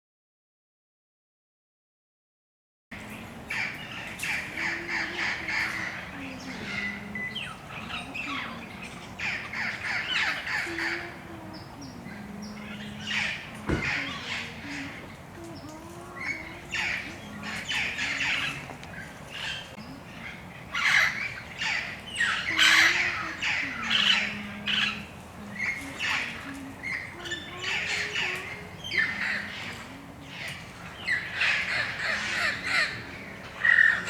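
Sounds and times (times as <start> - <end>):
parrots squawking: 3.5 - 11.2, 12.5 - 15.1, 16.2 - 34.0.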